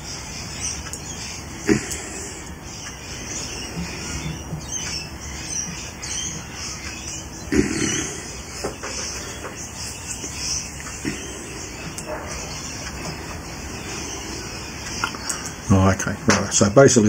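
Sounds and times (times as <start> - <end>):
faint bird chirps: 0.0 - 17.0
steady background noise: 0.0 - 17.0.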